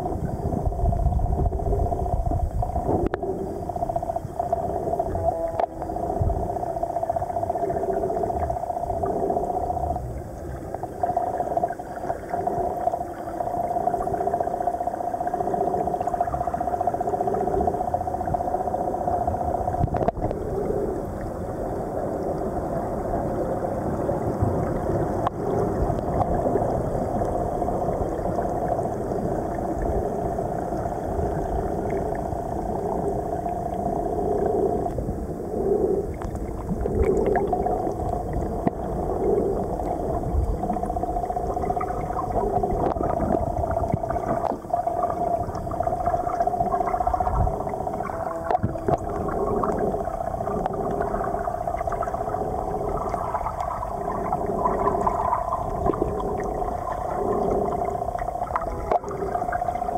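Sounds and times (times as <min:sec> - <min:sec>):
steady hum: 0:00.0 - 0:59.9
water moving around camera: 0:00.0 - 0:59.9.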